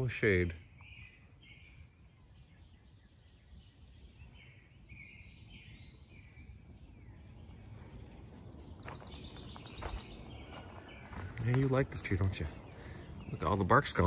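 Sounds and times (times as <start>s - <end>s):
distant bird chirps: 0.0s - 14.0s.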